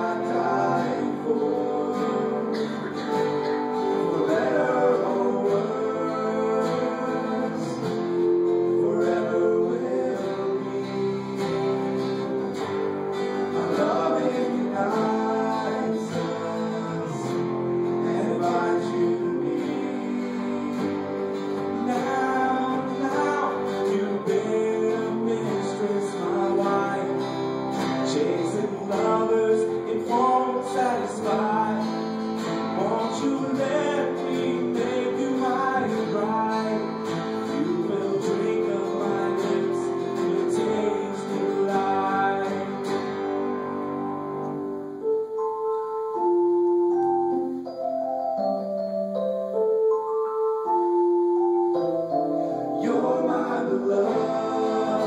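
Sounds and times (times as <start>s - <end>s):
men singing: 0.0s - 12.6s, 13.2s - 43.3s, 52.7s - 55.0s
acoustic guitar strumming: 0.0s - 47.7s, 50.4s - 55.0s.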